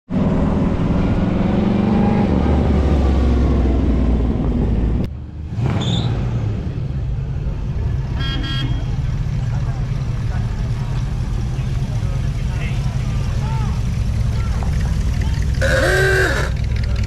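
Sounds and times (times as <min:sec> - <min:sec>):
car engine with low exhaust note: 0:00.1 - 0:17.0.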